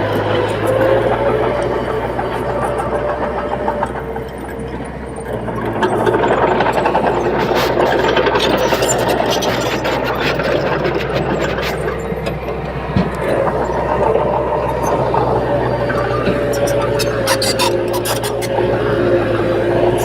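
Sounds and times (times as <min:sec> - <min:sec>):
diesel engine droning: 0:00.0 - 0:20.0
rattling and clanking: 0:00.0 - 0:20.0.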